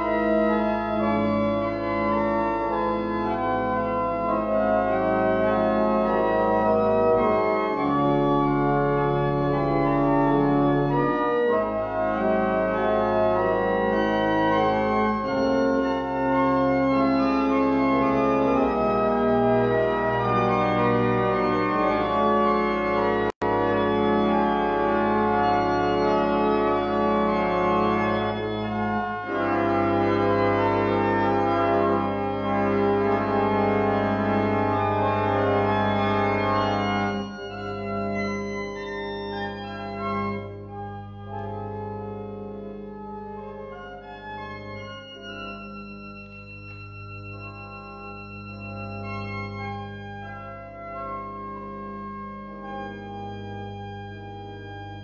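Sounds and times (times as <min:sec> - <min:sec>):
pipe organ playing chords: 0:00.0 - 0:55.0.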